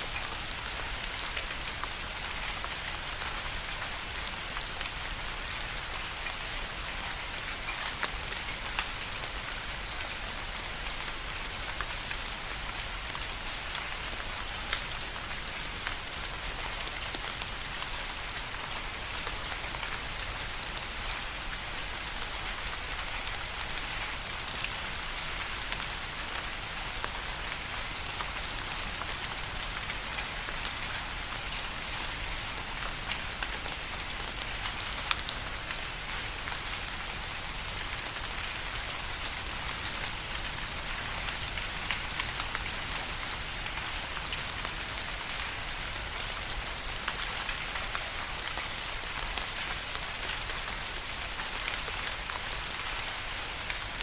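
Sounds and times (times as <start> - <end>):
raindrops ticking on a surface: 0.0 - 54.0
steady rain falling: 0.0 - 54.0.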